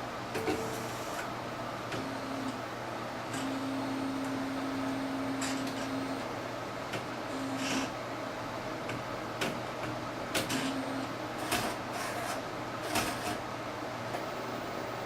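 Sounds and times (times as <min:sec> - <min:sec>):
steady noisy background: 0:00.0 - 0:15.0.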